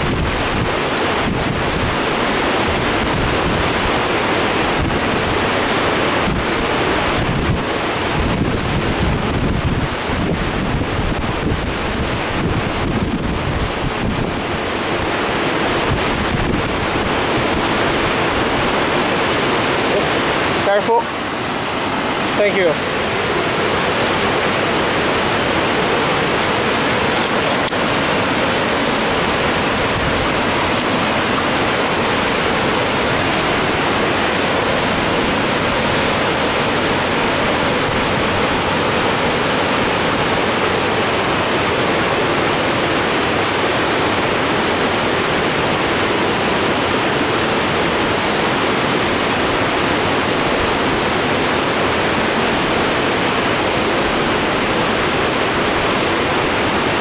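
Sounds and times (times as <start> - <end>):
creek rushing over rapids: 0.0 - 57.0.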